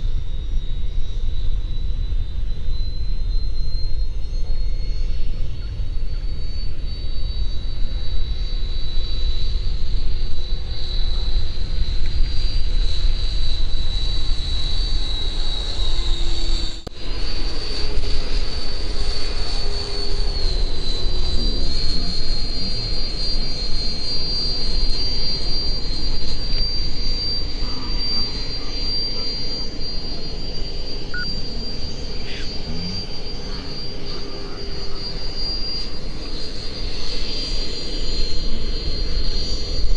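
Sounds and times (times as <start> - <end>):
model jet fan whine: 0.0 - 39.9.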